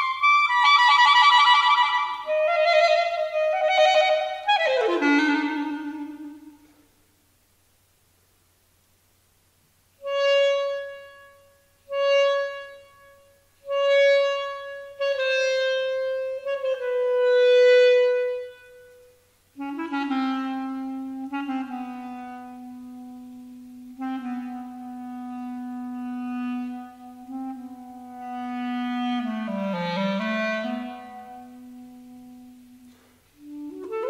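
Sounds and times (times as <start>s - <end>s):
solo clarinet: 0.0s - 6.9s, 10.0s - 34.0s.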